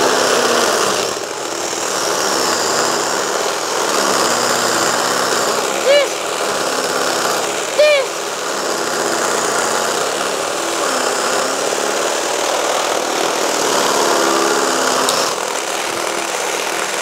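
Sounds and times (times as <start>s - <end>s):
impact drill drilling into masonry: 0.0s - 17.0s.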